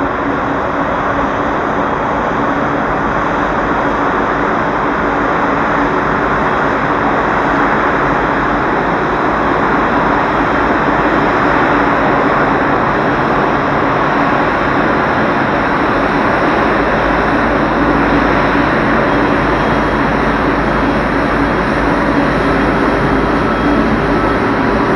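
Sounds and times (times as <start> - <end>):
jet engines roaring: 0.0 - 24.9.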